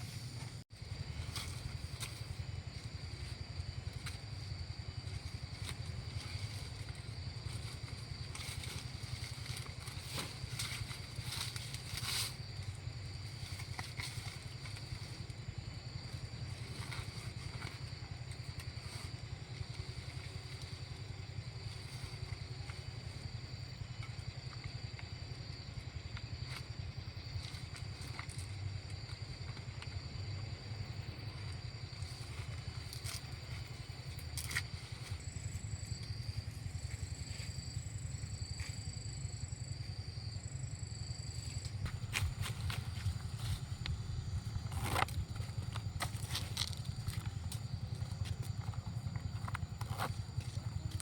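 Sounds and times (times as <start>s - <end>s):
small engine running: 0.0s - 26.0s, 30.6s - 40.0s, 40.6s - 51.0s.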